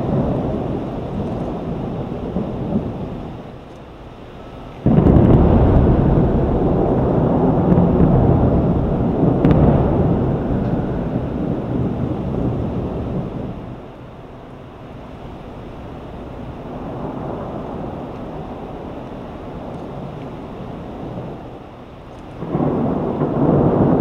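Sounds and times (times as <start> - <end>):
loud thunder clap: 0.0 - 3.6, 4.8 - 13.9, 16.4 - 21.6, 22.4 - 24.0
thunder rumbling: 0.0 - 24.0.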